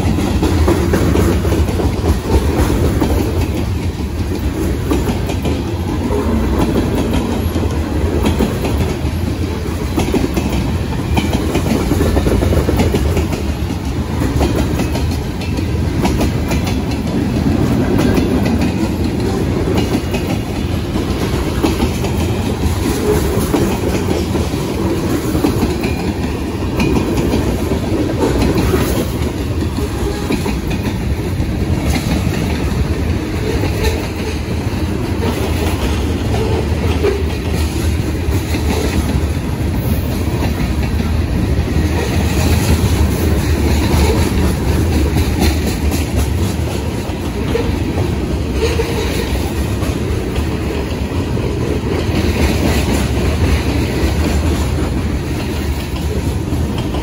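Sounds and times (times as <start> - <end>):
steel wheels rumbling on rail: 0.0 - 57.0
wheels clacking over rail joints: 0.0 - 57.0.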